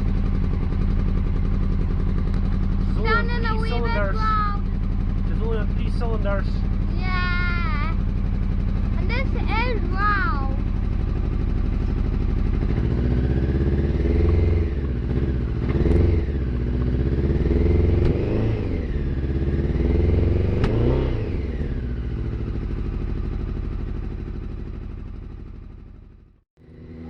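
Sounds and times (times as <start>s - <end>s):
motorcycle engine misfiring and revving: 0.0s - 27.0s.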